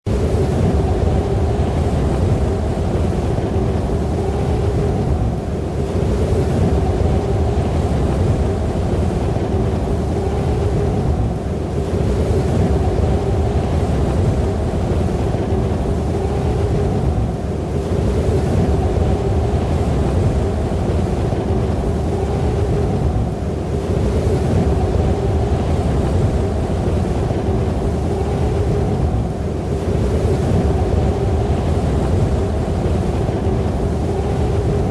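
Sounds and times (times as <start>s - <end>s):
snowstorm wind howling: 0.0s - 34.9s.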